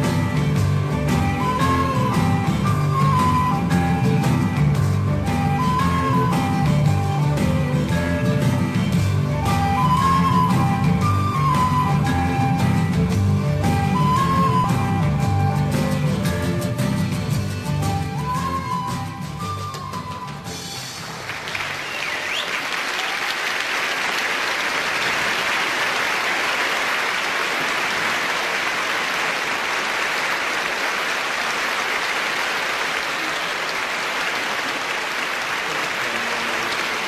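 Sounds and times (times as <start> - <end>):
audience applauding: 0.9 - 8.4, 9.3 - 16.2, 17.9 - 37.0.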